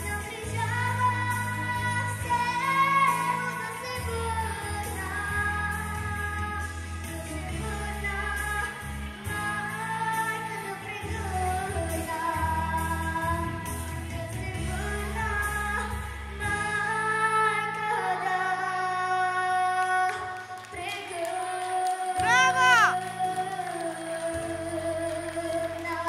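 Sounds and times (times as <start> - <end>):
girl singing into microphone: 0.0 - 26.0
pop backing music: 0.0 - 26.0.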